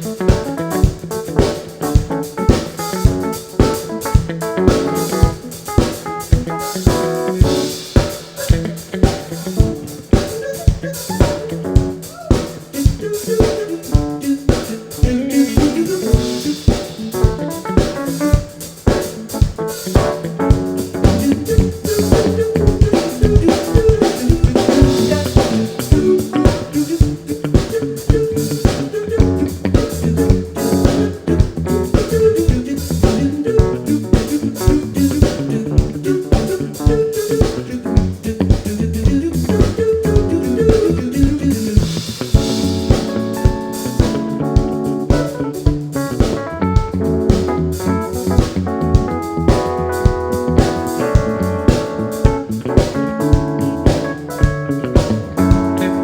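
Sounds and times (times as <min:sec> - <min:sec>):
band playing a groove: 0:00.0 - 0:56.0
bass guitar: 0:00.0 - 0:56.0
drum kick and snare beat: 0:00.0 - 0:56.0
guitar: 0:00.0 - 0:56.0.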